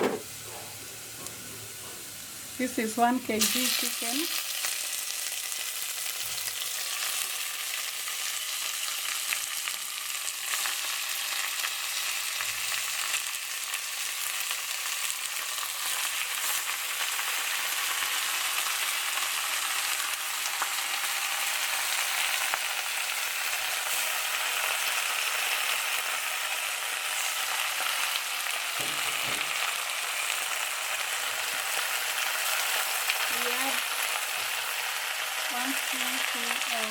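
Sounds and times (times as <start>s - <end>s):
chicken frying in hot oil: 2.4s - 36.9s.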